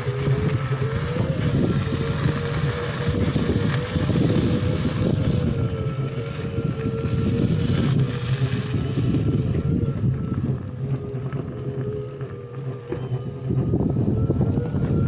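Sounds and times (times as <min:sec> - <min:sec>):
electric motor whining: 0:00.0 - 0:15.0
riding noise rumble: 0:00.0 - 0:15.0.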